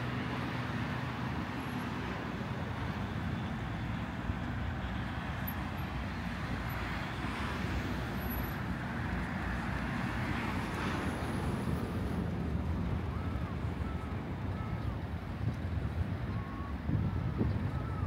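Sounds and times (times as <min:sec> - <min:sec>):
steady low traffic rumble: 0:00.0 - 0:18.0.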